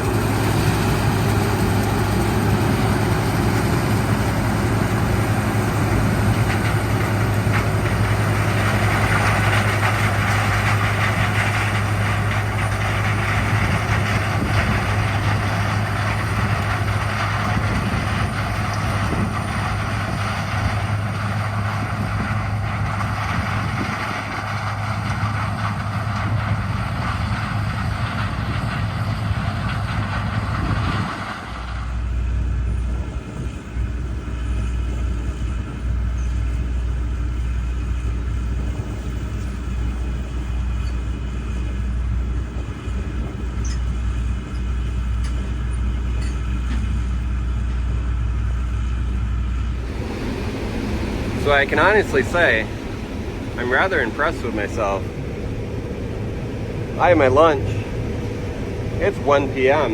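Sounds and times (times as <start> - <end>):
diesel farm machine engine hum: 0.0 - 59.9.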